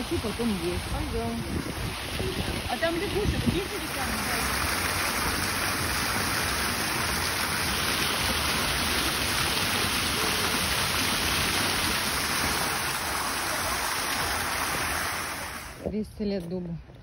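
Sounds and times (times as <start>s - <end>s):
fountain splashing into pool: 0.0s - 15.8s.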